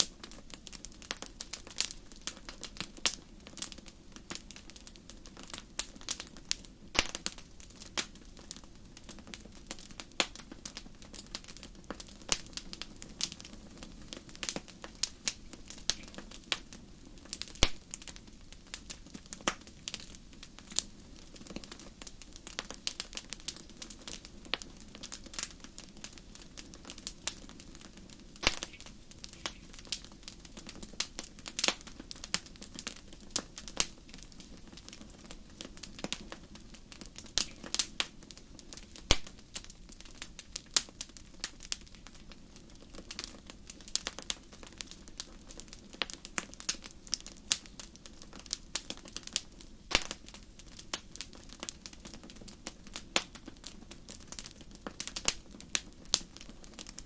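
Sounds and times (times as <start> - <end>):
fireplace fire crackling: 0.0 - 57.0.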